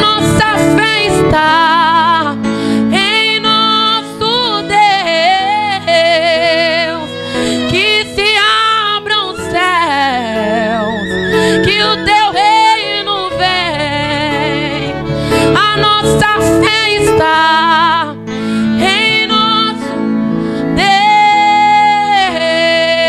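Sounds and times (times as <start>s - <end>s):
instrumental backing: 0.0s - 23.0s
woman singing into a microphone: 0.0s - 23.0s.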